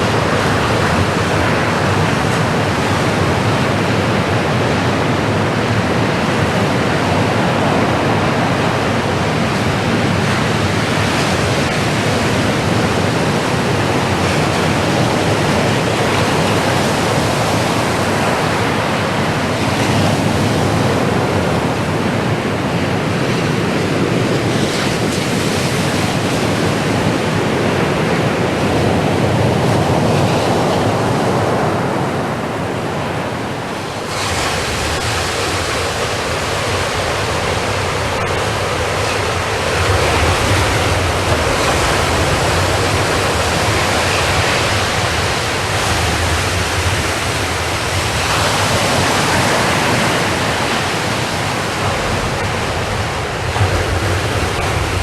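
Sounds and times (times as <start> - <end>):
waves breaking on shore: 0.0 - 55.0.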